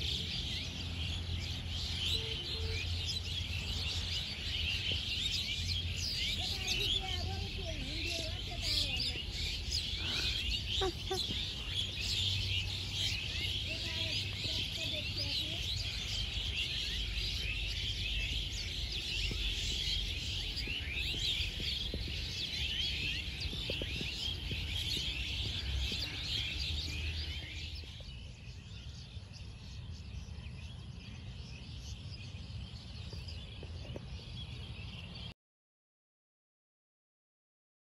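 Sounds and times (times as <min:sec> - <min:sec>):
flock of birds chirping: 0:00.0 - 0:35.3.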